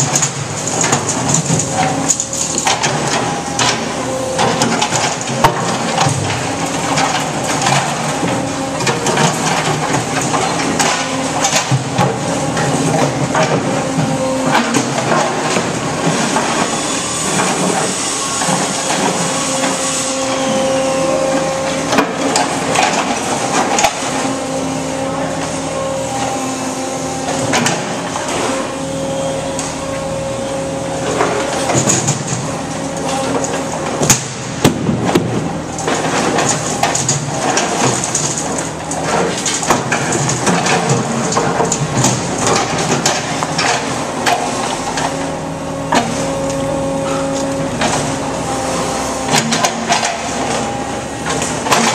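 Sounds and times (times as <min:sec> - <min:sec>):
concrete chunks clattering in bins: 0:00.0 - 0:25.5, 0:31.1 - 0:51.9
hydraulic hum: 0:00.3 - 0:51.9.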